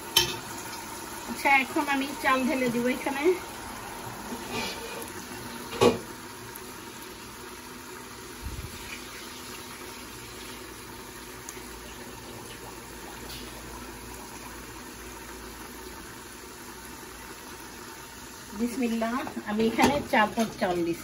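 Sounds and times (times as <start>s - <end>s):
gravy simmering in pot: 0.0s - 20.9s.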